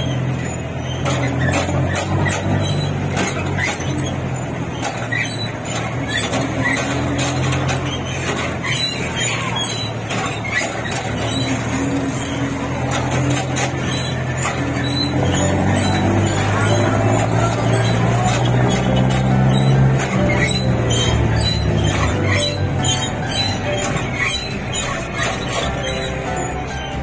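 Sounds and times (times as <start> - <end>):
bumper squeaking and rattling: 0.0 - 27.0
engine hum: 0.0 - 27.0.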